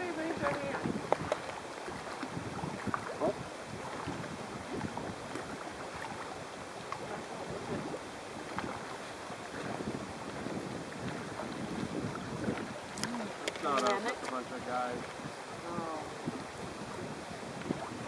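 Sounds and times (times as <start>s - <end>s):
small waves lapping and splashing: 0.0s - 18.0s
wind on microphone: 0.0s - 18.0s.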